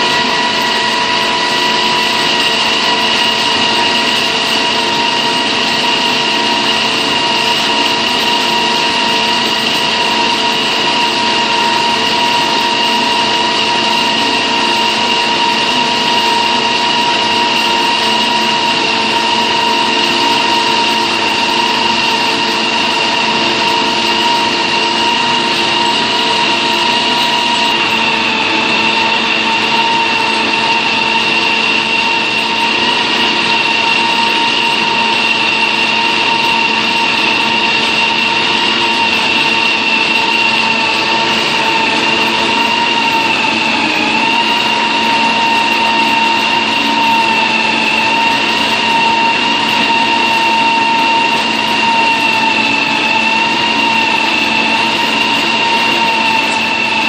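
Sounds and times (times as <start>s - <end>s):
drilling rig running with high whine: 0.0s - 57.0s.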